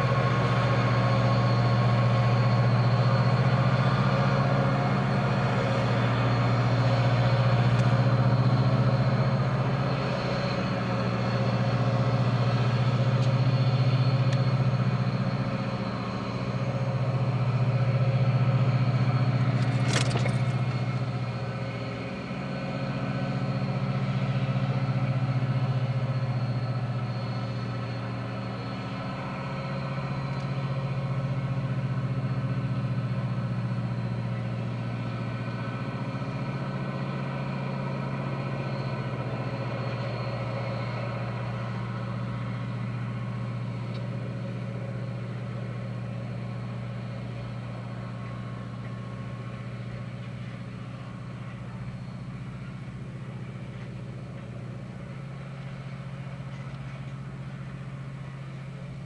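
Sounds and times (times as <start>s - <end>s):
car idling hum: 0.0s - 59.0s.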